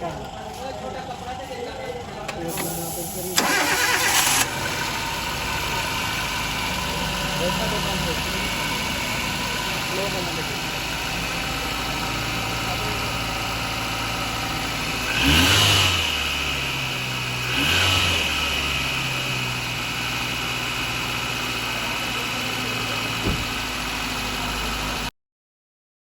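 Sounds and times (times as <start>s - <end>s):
car engine idling and revving: 0.0s - 25.1s.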